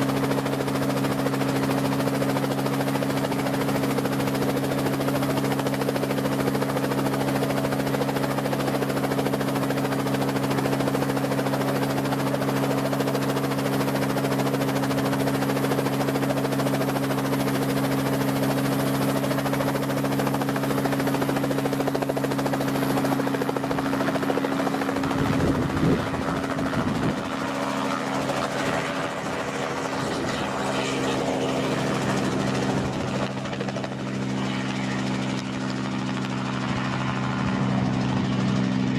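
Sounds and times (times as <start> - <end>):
helicopter engine and rotor hum: 0.0 - 38.9.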